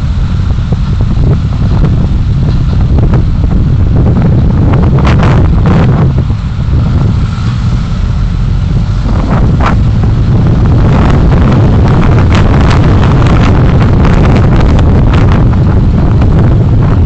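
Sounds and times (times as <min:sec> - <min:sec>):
low road and engine rumble: 0:00.0 - 0:17.0
wind buffeting microphone: 0:00.0 - 0:17.0.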